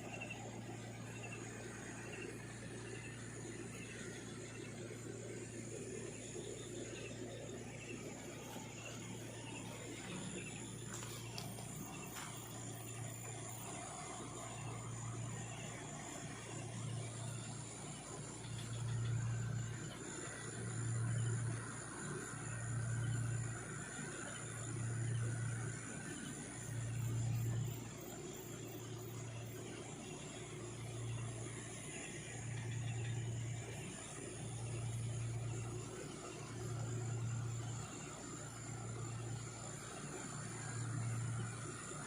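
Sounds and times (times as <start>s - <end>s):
low deep hum: 0.0s - 42.0s
night insects droning: 0.0s - 42.0s.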